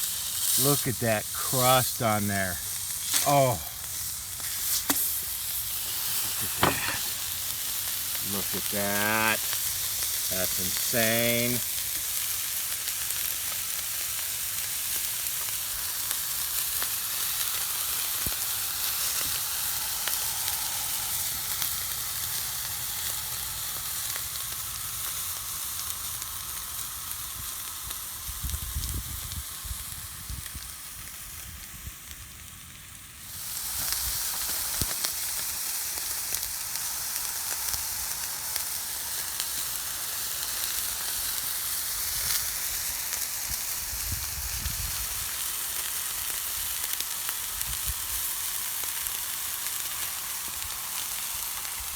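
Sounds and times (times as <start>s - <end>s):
steaks sizzling on a griddle: 0.0s - 51.9s.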